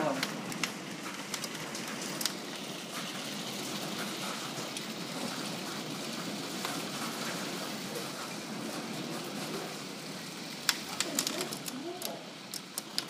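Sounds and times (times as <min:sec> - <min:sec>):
hailstones clicking on hard surfaces: 0:00.0 - 0:13.0
heavy hail hissing: 0:00.0 - 0:13.0.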